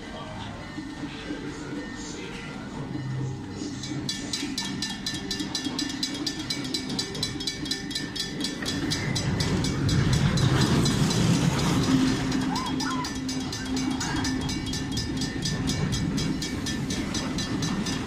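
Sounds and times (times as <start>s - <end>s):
railroad crossing bell ringing: 3.5s - 18.0s.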